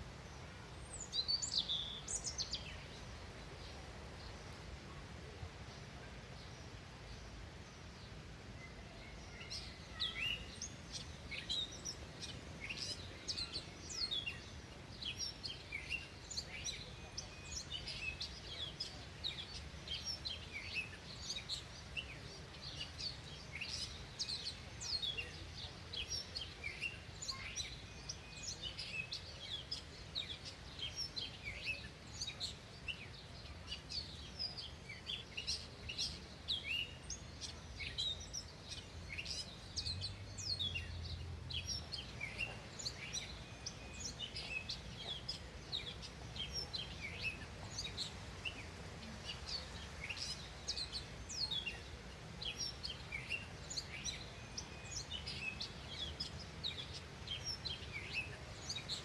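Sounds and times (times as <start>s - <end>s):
small songbirds chirping: 0.0s - 59.0s.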